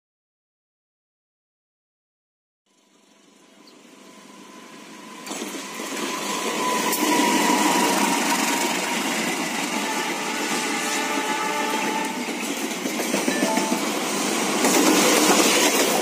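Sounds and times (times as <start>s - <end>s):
train rolling noise: 2.7s - 16.0s.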